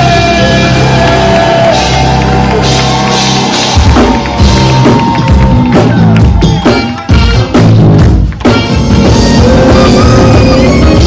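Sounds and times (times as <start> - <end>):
drums playing hard: 0.0 - 11.0
heavy bass: 0.0 - 11.0
live band playing loudly: 0.0 - 11.0.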